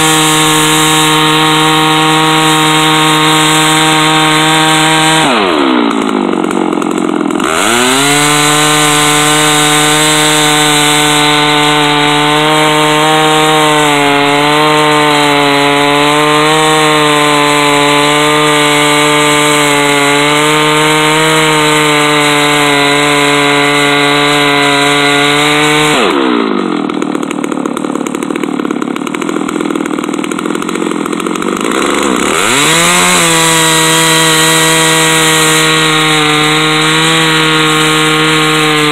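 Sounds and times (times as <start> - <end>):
chainsaw ripping log: 0.0 - 38.9.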